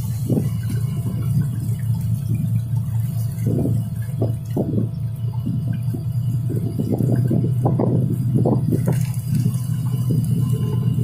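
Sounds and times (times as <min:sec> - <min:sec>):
steady low rumble: 0:00.0 - 0:11.0
water lapping against rocks: 0:00.0 - 0:11.0.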